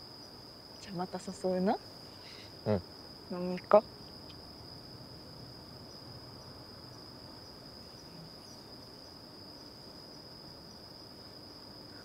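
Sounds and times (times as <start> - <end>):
crickets trilling: 0.0 - 12.0
low background hiss: 0.0 - 12.0.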